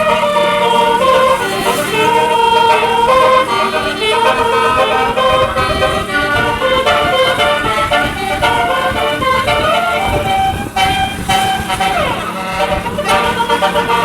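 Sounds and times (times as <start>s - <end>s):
multi-trumpet air horn melody: 0.0s - 14.0s.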